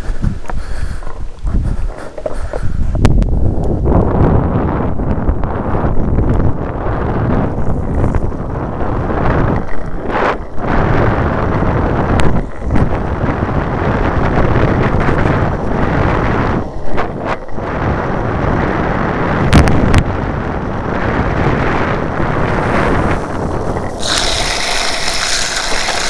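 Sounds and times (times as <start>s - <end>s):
low road rumble: 0.0s - 26.0s
wind buffeting microphone: 0.0s - 26.0s.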